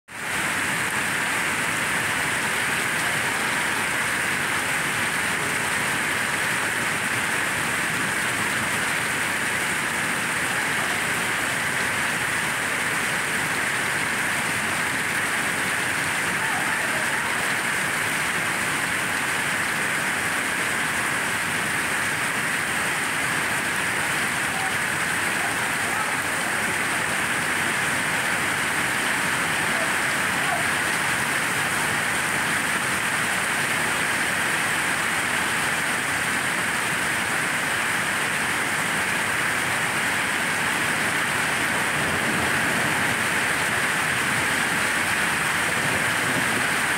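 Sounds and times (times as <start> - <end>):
hail pelting water: 0.2 - 46.9.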